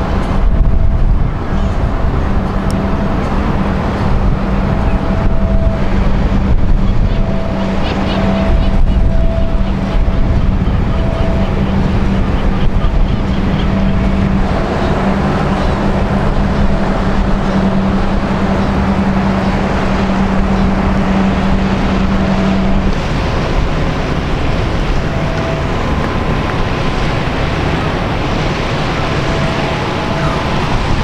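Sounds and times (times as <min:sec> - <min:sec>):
ship engine drone: 0:00.0 - 0:31.0
water noise: 0:00.0 - 0:31.0
wind: 0:00.0 - 0:31.0.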